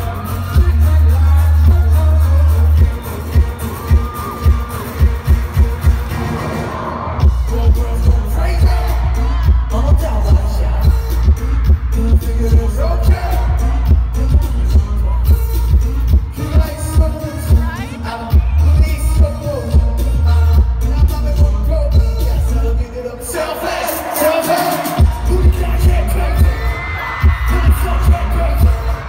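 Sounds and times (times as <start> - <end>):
person singing: 0.0 - 29.0
pop music with heavy bass: 0.0 - 29.0.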